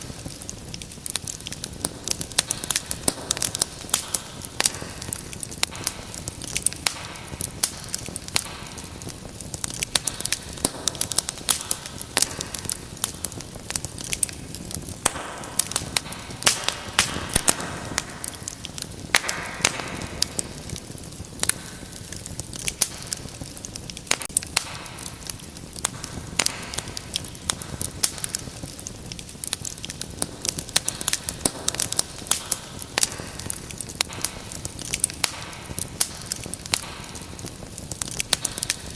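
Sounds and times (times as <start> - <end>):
flames rushing: 0.0 - 38.9
wood fire crackling: 0.0 - 38.9.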